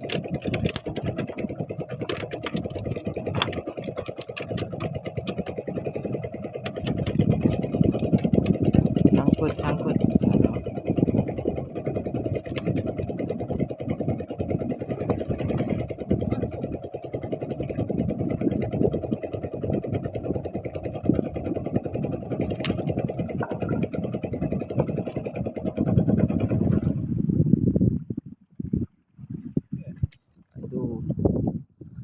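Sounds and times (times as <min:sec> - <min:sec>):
small boat engine chugging: 0:00.0 - 0:27.5.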